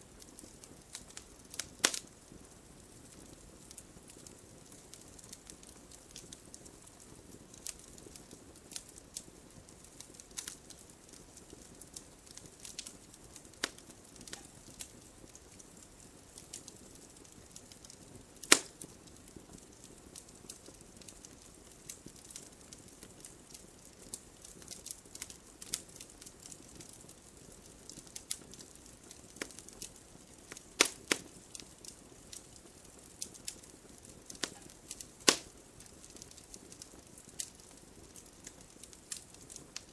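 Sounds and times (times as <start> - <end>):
campfire crackling and popping: 0.0 - 39.9
campfire hiss: 0.0 - 39.9.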